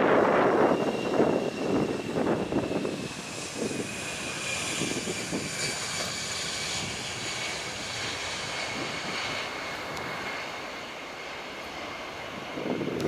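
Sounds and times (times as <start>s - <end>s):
jet engines at takeoff thrust: 0.0s - 13.0s.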